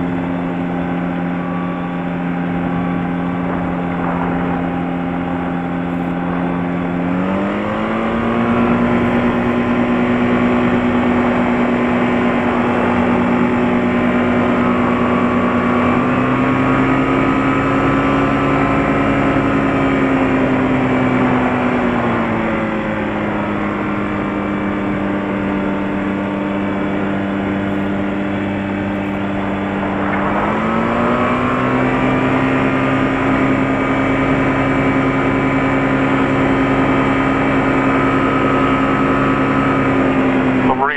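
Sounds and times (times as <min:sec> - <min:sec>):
light aircraft engine and propeller: 0:00.0 - 0:40.9.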